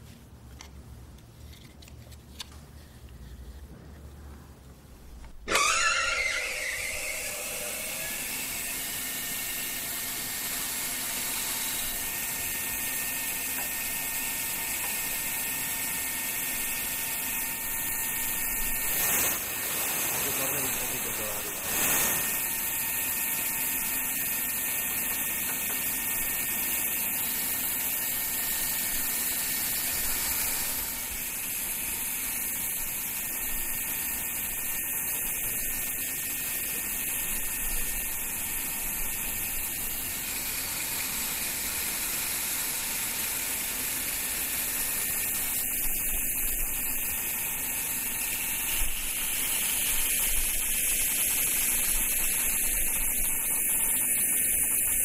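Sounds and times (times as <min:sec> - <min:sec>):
band saw cutting wood: 0:05.4 - 0:55.0
band saw whirring: 0:05.4 - 0:55.0.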